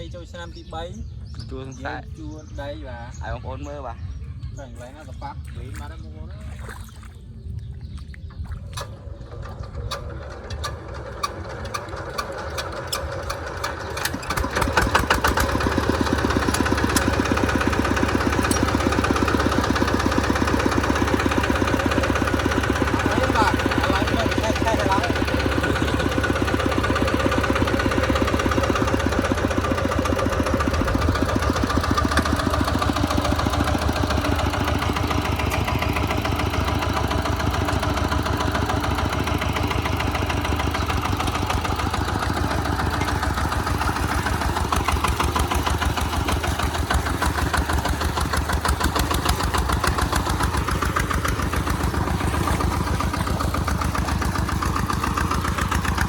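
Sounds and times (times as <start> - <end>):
diesel tractor engine chugging: 0.0 - 6.4, 7.6 - 56.0.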